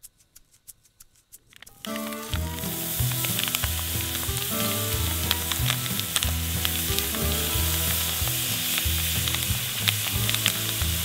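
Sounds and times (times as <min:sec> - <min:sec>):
ham sizzling in hot oil: 0:01.8 - 0:11.0.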